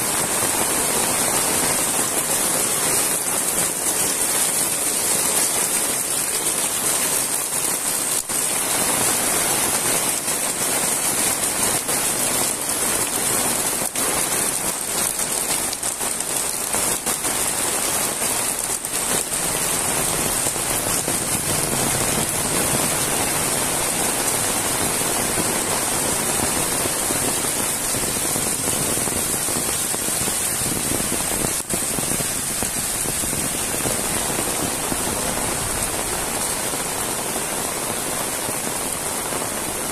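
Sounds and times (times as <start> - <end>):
heavy rain splashing: 0.0 - 39.9
water streaming off roof: 0.0 - 39.9.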